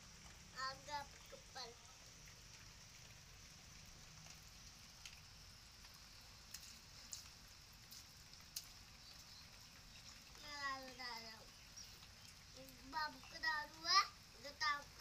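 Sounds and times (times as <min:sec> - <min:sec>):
light rain on concrete: 0:00.0 - 0:15.0.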